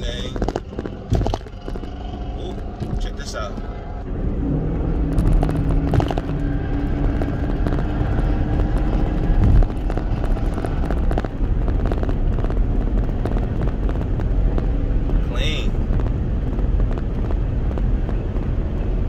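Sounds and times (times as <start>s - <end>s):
road rumble: 0.0s - 19.0s
vehicle engine drone: 0.0s - 19.0s.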